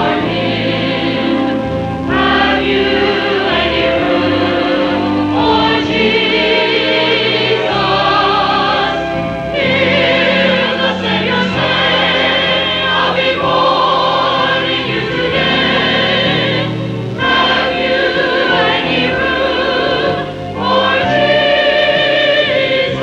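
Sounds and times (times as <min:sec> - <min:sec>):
choir singing in parts: 0:00.0 - 0:23.0.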